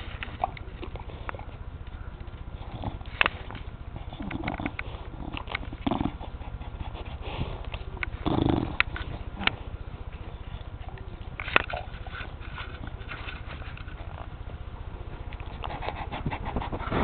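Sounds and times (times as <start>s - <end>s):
dog sniffing: 0.0s - 14.5s, 15.2s - 17.0s
dog chewing carrot: 0.0s - 17.0s.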